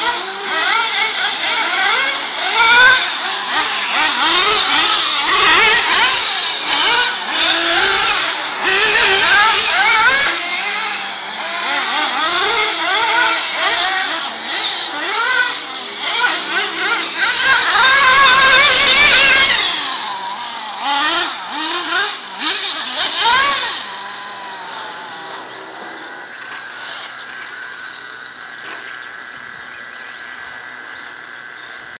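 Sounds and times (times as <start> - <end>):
rc buggy engines revving: 0.0 - 32.0.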